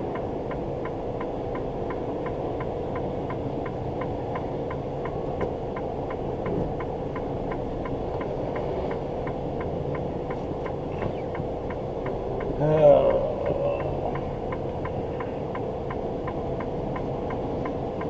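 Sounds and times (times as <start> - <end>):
truck engine and road drone: 0.0 - 18.0
turn signal ticking: 0.0 - 18.0.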